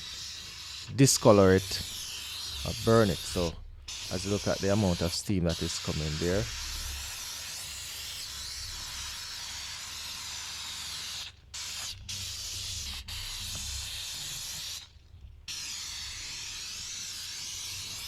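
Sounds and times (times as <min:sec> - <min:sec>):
steam cleaner hissing: 0:00.0 - 0:14.8.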